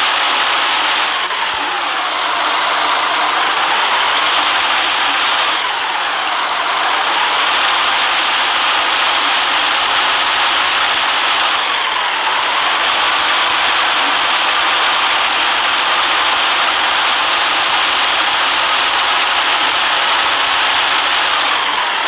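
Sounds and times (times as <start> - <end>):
bus engine: 0.0 - 22.0.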